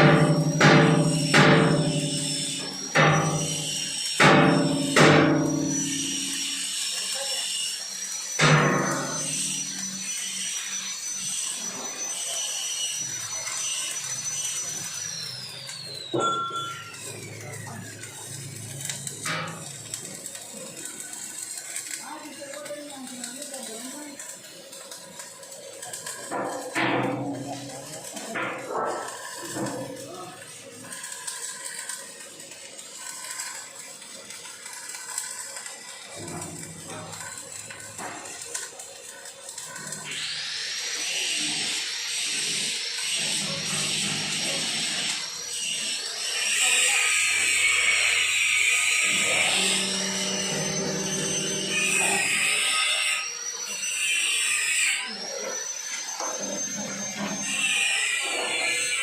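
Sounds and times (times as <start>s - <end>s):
rough working noise: 0.0s - 59.0s
power tool motor whining: 0.2s - 59.0s.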